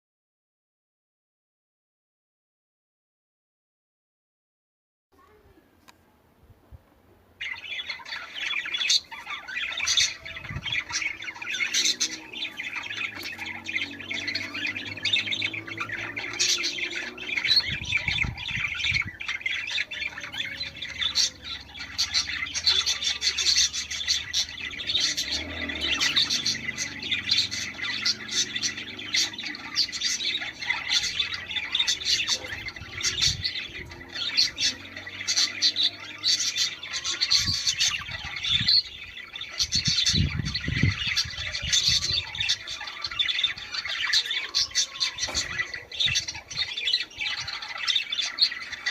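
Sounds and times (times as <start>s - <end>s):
budgerigars chattering and warbling: 7.4s - 48.9s.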